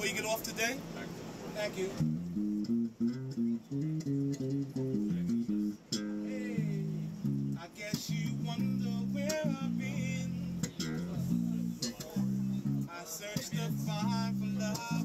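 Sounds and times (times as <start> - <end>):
guitar picking single notes: 2.0 - 15.0.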